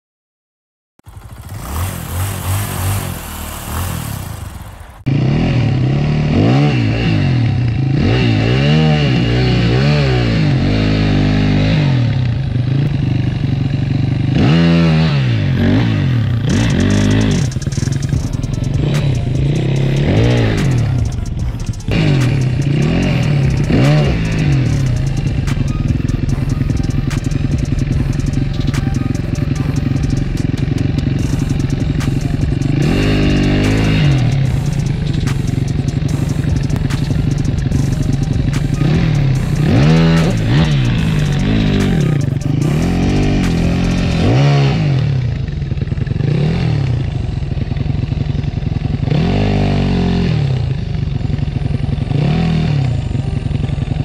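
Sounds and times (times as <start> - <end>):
motorcycle engine revving: 1.0 - 54.0.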